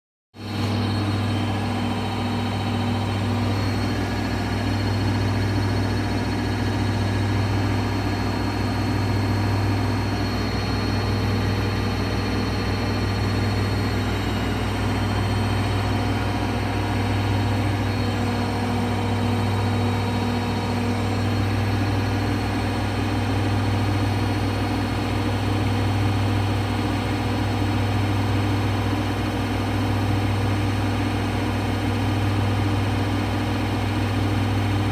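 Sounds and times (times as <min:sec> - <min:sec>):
washing machine spinning: 0:00.4 - 0:34.9.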